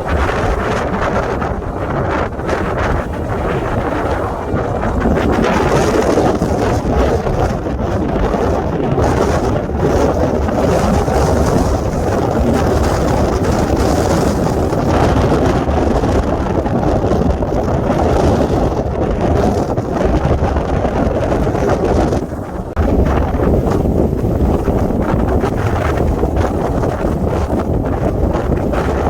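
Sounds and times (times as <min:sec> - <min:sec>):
gusty wind buffeting microphone: 0:00.0 - 0:29.0.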